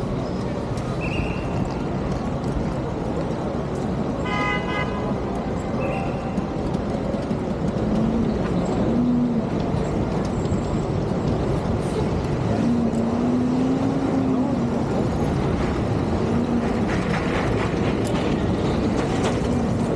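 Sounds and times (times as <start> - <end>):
city street traffic: 0.0 - 19.9
vehicle engines running: 0.0 - 19.9.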